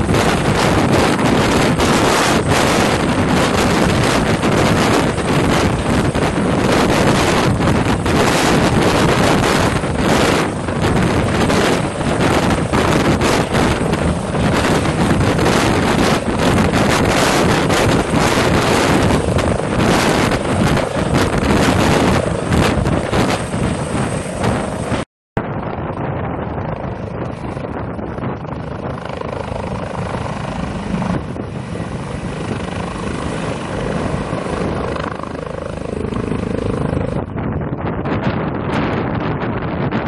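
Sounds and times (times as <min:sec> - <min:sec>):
helicopter rotor beating: 0:00.0 - 0:40.0.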